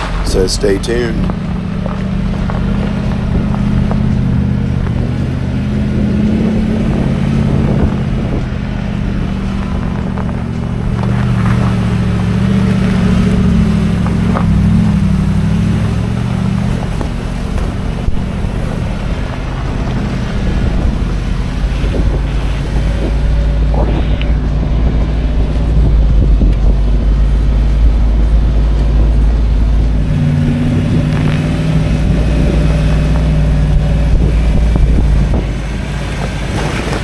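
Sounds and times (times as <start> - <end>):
car engine running: 0.0 - 37.0
road and tyre noise: 0.0 - 37.0.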